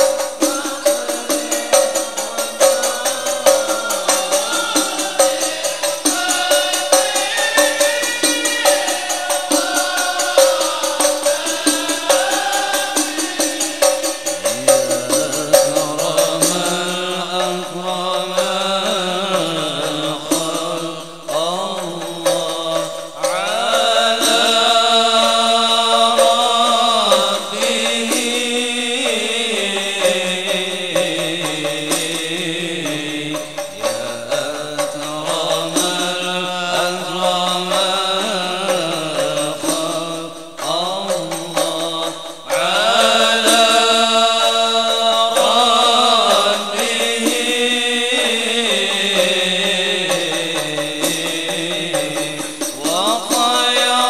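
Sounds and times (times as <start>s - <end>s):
men chanting: 0.0s - 54.0s.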